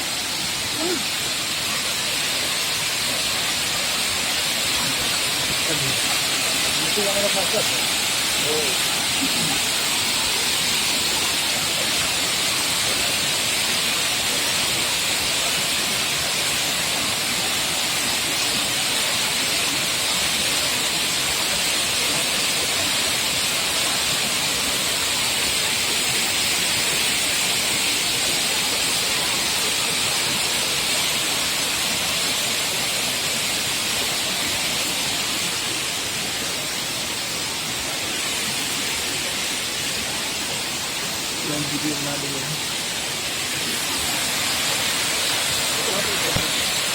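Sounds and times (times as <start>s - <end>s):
waterfall pouring onto rock: 0.0s - 46.9s.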